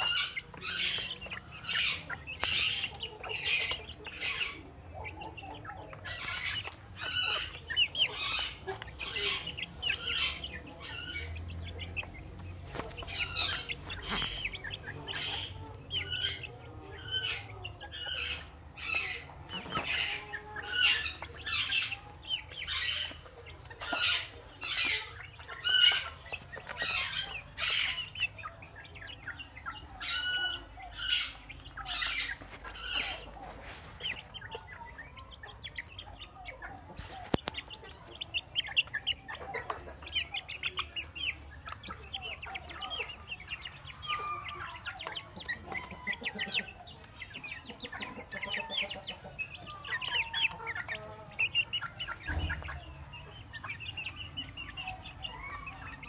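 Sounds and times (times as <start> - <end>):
chicks peeping and chirping: 0.0 - 56.0.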